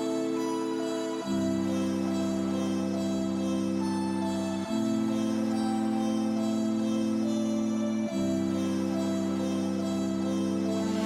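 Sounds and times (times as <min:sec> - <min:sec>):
calm new-age music: 0:00.0 - 0:11.0.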